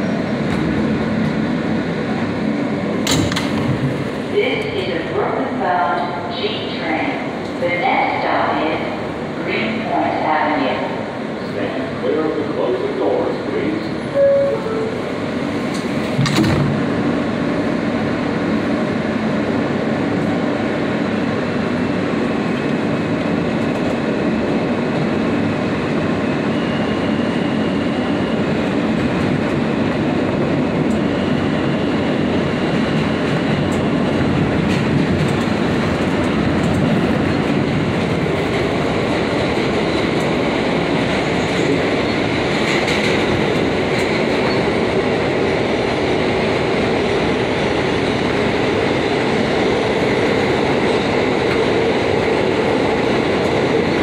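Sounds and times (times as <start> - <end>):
subway train rumble and clatter: 0.0 - 54.0.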